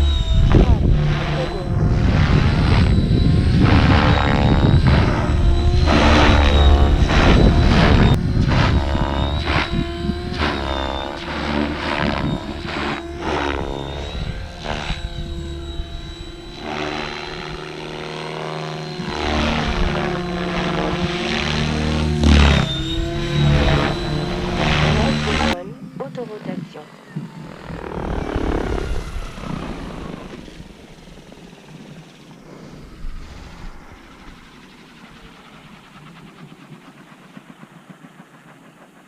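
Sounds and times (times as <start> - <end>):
model helicopter rotor whine: 0.0 - 39.0.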